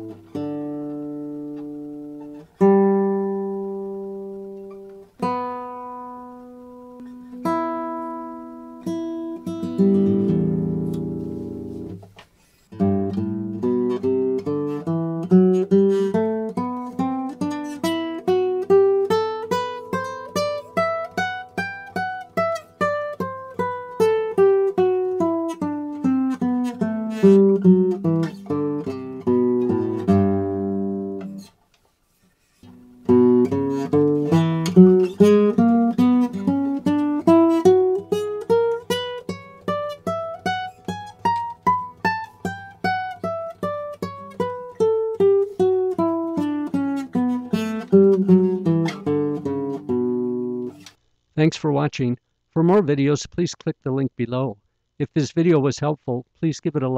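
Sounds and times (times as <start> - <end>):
classical guitar playing: 0.0 - 51.0.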